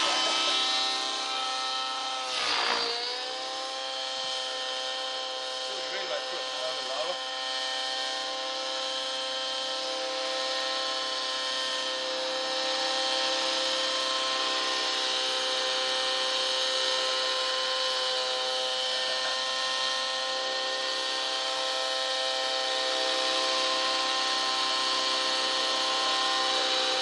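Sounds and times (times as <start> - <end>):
model helicopter engine whine: 0.0 - 27.0.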